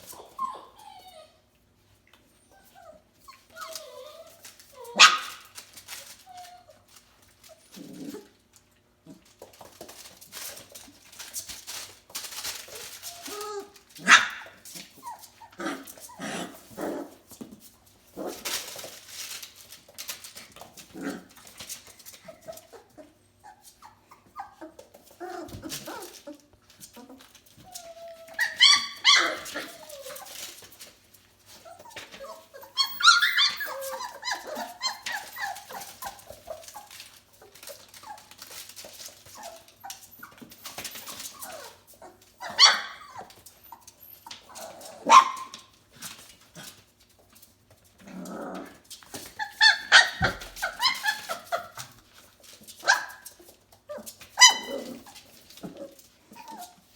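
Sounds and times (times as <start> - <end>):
puppies yipping and squealing: 0.0 - 1.5, 2.4 - 8.2, 9.8 - 17.1, 21.2 - 46.2, 49.1 - 56.9
scuffling and shuffling: 3.2 - 56.9.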